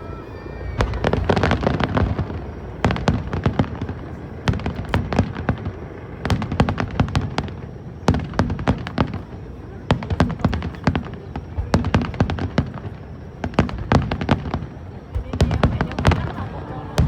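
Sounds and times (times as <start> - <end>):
low rumble of shells bursting: 0.8 - 16.4
fireworks cracking and banging: 0.8 - 17.0.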